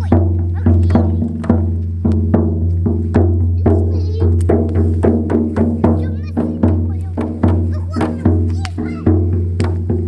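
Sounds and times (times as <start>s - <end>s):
frame drums beating: 0.0s - 10.0s.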